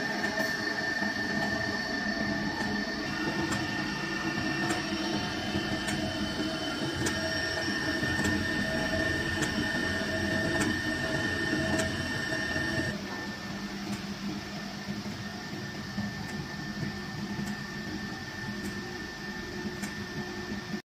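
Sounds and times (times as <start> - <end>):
blender machine hum: 0.0 - 20.8
thin mechanical whine: 0.0 - 20.8
light ticking of turning shafts: 2.2 - 13.0, 13.8 - 20.7.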